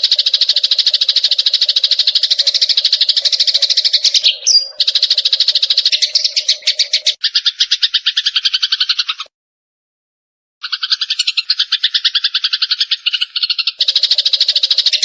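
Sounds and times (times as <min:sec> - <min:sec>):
sparrow chattering trill: 0:00.0 - 0:09.3, 0:10.6 - 0:15.0.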